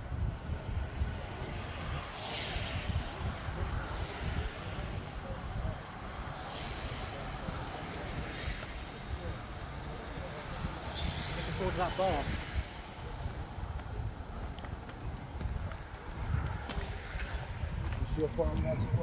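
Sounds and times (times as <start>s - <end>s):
bicycles swishing past: 0.0s - 18.2s
wind rumble on microphone: 0.0s - 19.0s.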